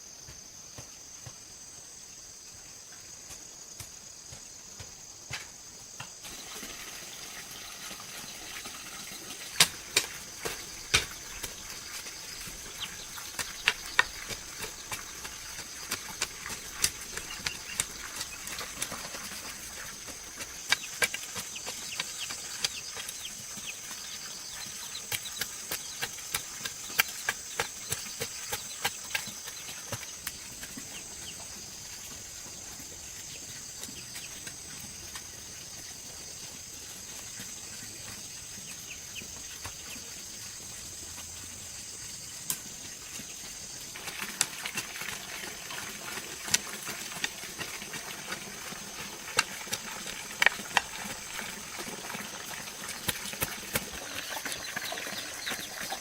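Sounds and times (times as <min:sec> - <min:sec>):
insect chorus: 0:00.0 - 0:56.0.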